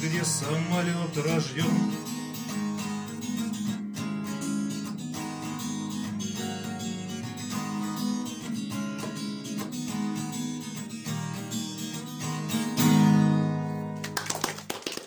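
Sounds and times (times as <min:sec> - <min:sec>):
acoustic guitar strumming chords: 0:00.0 - 0:14.1.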